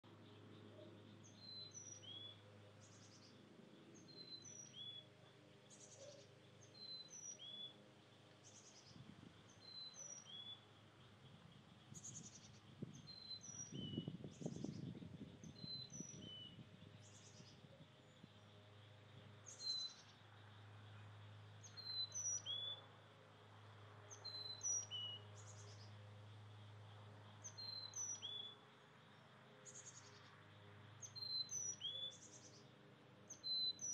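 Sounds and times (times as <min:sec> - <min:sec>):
songbird chirping: 0:00.0 - 0:33.9.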